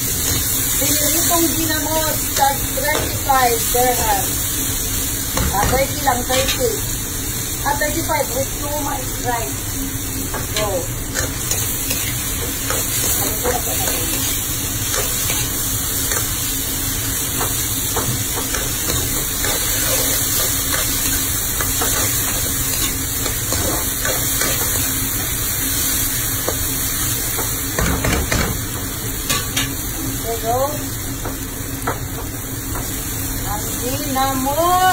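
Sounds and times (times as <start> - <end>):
food sizzling in a pan: 0.0 - 34.9.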